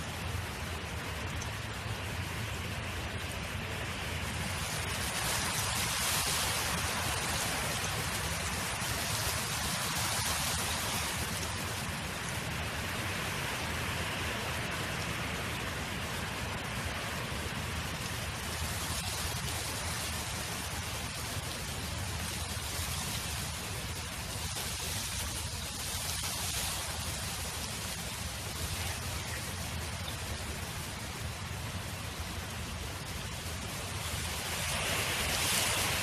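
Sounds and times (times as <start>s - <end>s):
wind blowing: 0.0s - 36.0s.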